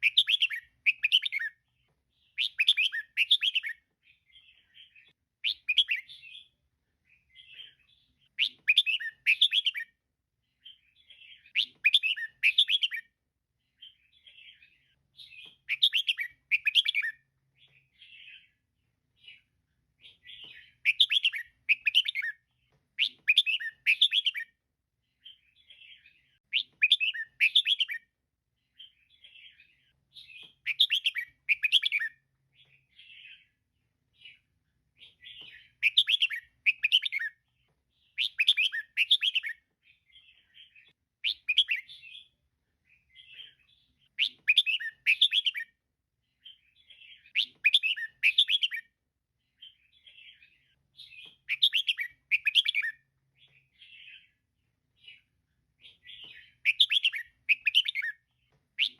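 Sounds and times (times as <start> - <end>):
soft bird chatter: 0.0 - 58.9.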